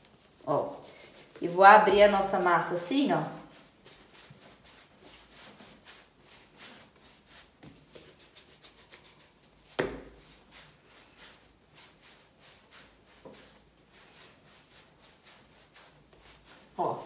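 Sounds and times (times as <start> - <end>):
hands rubbing bread dough: 0.0 - 17.0.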